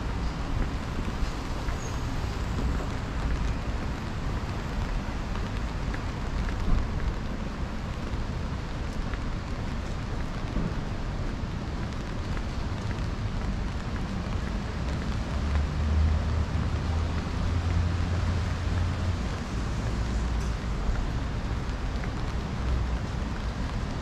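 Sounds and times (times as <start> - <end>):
rain hissing on street: 0.0 - 24.0.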